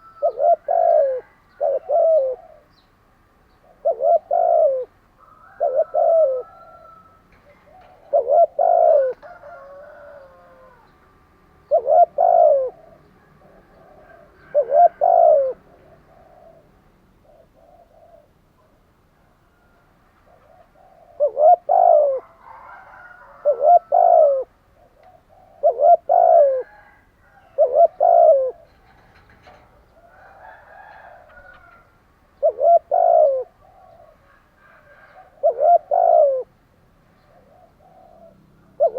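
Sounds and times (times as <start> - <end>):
dove cooing: 0.0 - 2.8, 3.6 - 11.0, 11.6 - 18.8, 19.5 - 36.6, 37.2 - 38.9.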